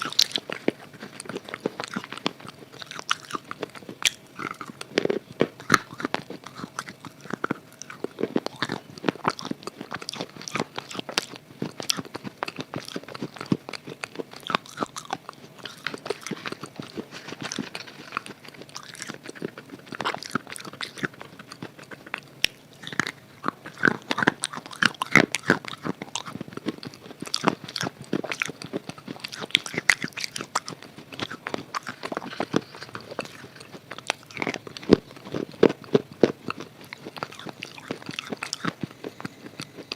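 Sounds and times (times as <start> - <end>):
biting and chewing chalk: 0.0 - 39.9.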